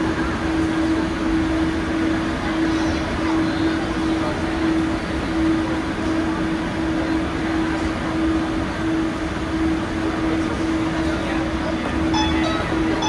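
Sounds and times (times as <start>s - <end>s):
train hum: 0.0s - 13.0s
train wheels rumbling on track: 0.0s - 13.0s.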